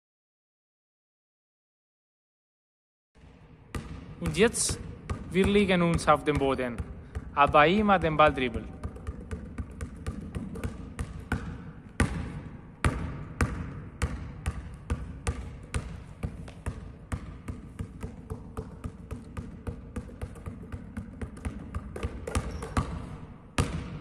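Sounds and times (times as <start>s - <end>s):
basketball bouncing on hall floor: 3.2s - 24.0s.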